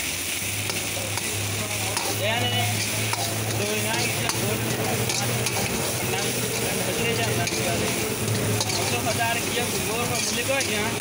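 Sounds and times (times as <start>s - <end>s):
ladle stirring in a wok: 0.0s - 11.0s
steady sizzling: 0.0s - 11.0s.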